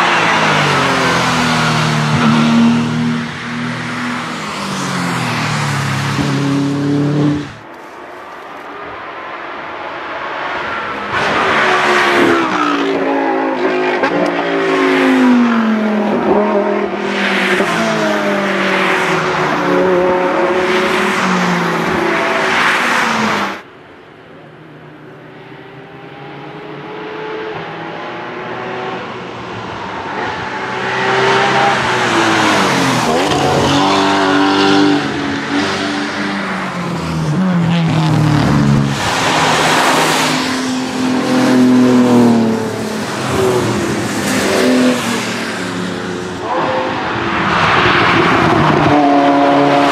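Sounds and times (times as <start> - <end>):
racing car engines revving: 0.0 - 7.9, 8.9 - 49.9.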